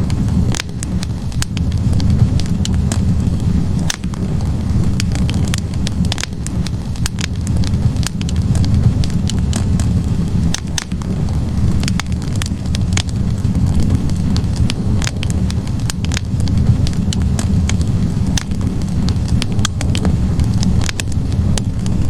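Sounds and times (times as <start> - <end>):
fire flames rumbling: 0.0 - 22.0
logs crackling and popping: 0.0 - 22.0.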